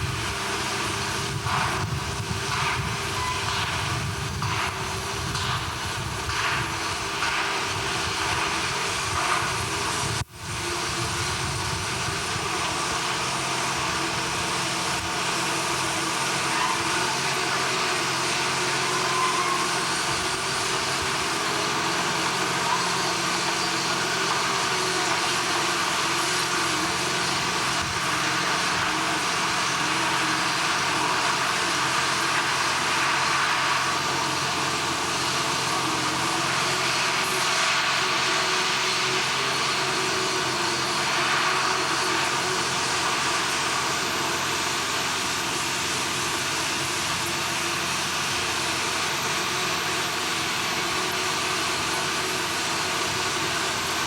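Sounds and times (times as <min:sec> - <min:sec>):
heavy machinery rumble: 0:00.0 - 0:54.0.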